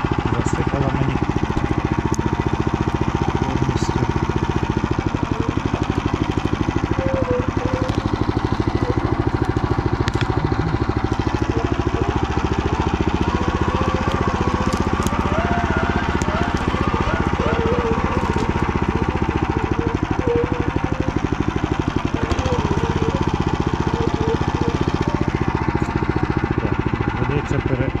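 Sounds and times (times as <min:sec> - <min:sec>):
engine chugging: 0:00.0 - 0:28.0.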